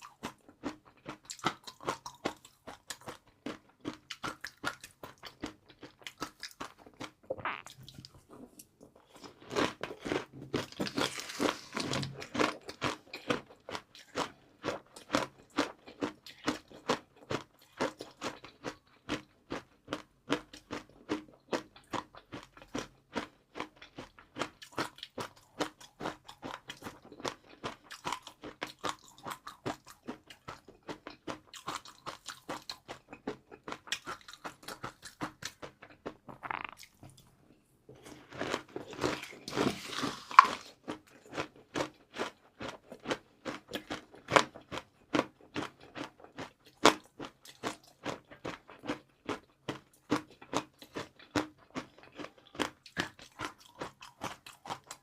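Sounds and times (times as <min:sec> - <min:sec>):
crunchy chewing of fried noodles: 0:00.0 - 0:55.0.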